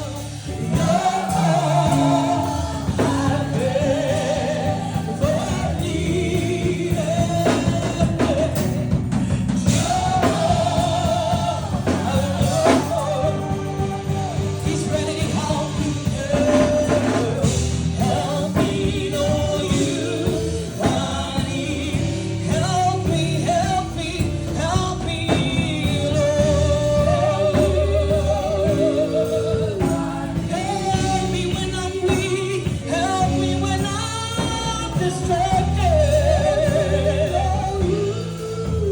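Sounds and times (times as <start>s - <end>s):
band with drum kit: 0.0s - 38.9s
gospel singers with vibrato: 0.0s - 38.9s.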